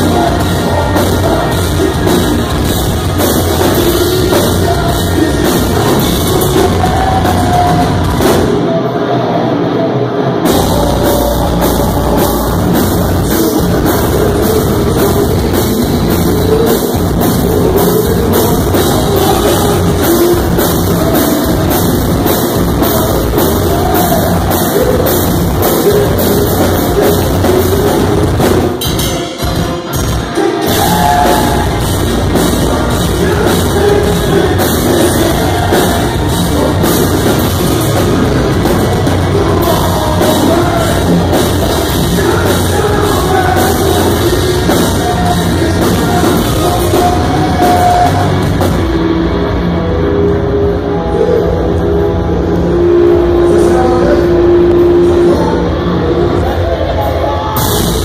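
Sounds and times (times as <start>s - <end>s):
heavy rock band playing: 0.0s - 58.0s.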